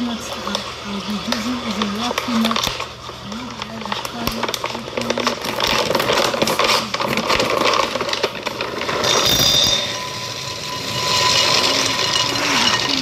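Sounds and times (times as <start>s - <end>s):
peanuts rattling in a bowl: 0.0s - 13.0s.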